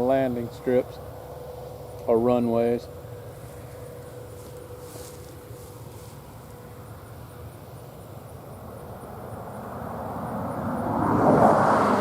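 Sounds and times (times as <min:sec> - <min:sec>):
airplane flying over: 0:00.0 - 0:12.0.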